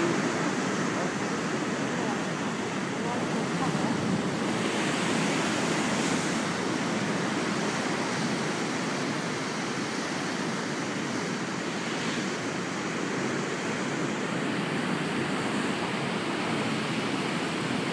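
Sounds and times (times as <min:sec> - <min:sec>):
rush of surf: 0:00.0 - 0:17.9.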